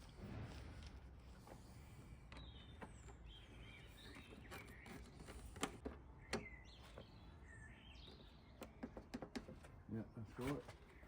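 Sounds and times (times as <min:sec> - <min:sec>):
faint birdsong: 0:01.4 - 0:11.0.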